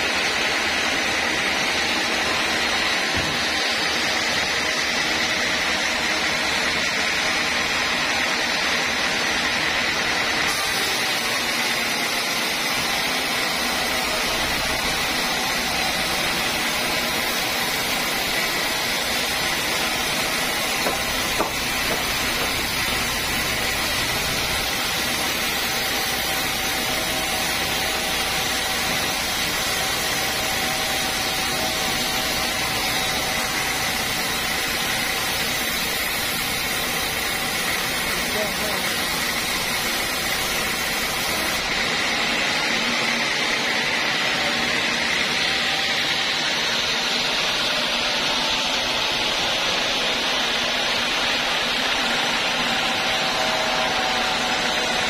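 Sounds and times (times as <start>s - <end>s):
band sawmill rushing whine: 0.0s - 55.0s.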